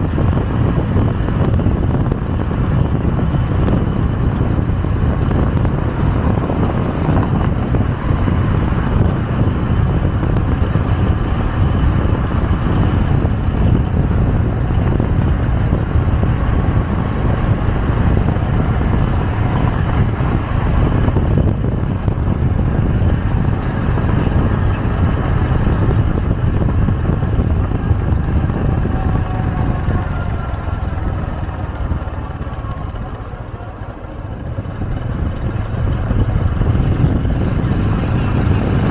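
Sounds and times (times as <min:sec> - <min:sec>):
motorcycle engine running: 0:00.0 - 0:38.9
road noise: 0:00.0 - 0:38.9
wind buffeting microphone: 0:00.0 - 0:38.9.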